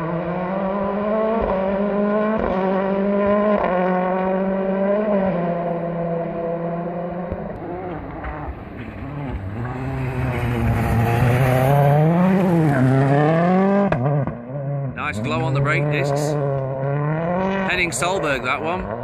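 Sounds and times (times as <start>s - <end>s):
rally car engine passing: 0.0s - 19.0s.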